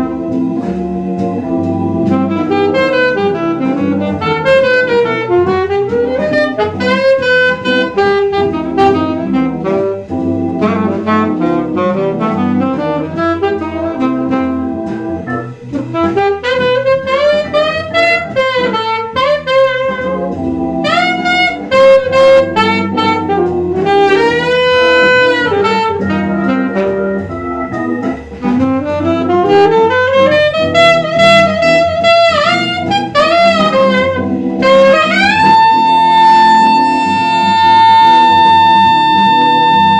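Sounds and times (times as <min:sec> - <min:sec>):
backing track music: 0:00.0 - 0:39.9
saxophone playing jazz melody: 0:00.0 - 0:39.9.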